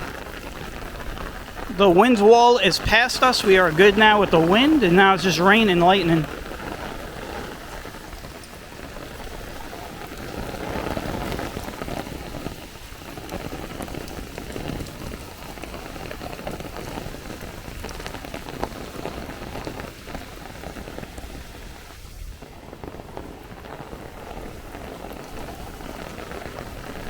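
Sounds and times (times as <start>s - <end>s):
heavy rain downpour: 0.0s - 27.0s.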